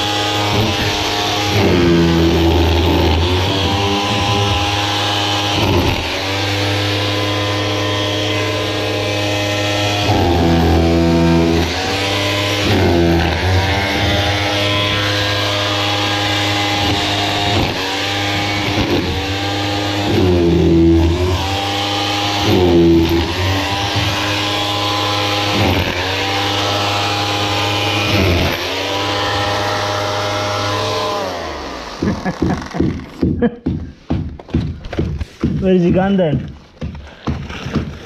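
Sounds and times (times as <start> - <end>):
demolition hammer chiselling: 0.0 - 38.0.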